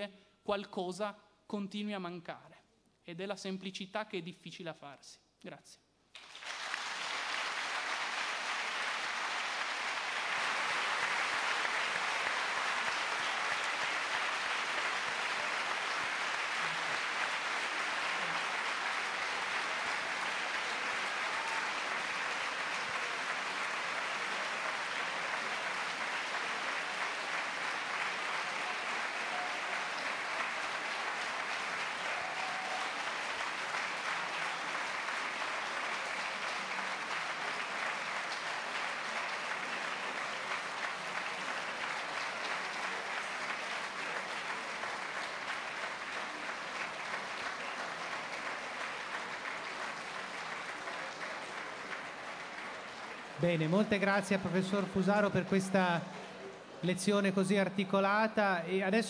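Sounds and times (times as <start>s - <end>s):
large audience applauding: 6.1s - 57.6s.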